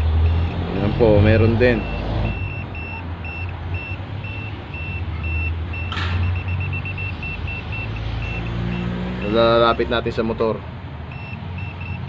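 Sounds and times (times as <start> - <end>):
multimeter short high beeps: 0.2 - 9.4, 11.1 - 12.0.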